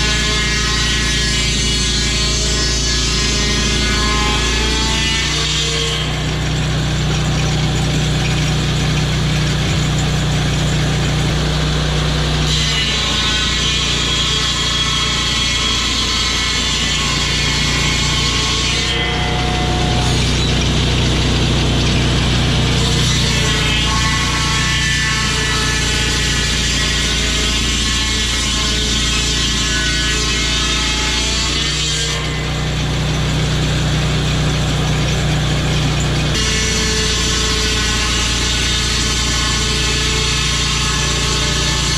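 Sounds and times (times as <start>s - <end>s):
saw cutting timber: 0.0s - 41.9s
sawmill engine running: 0.0s - 41.9s.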